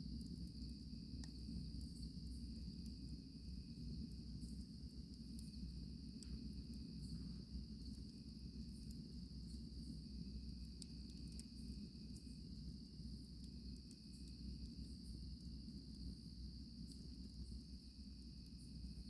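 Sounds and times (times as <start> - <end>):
crickets chirping: 0.0 - 19.0
campfire crackling: 0.1 - 19.0.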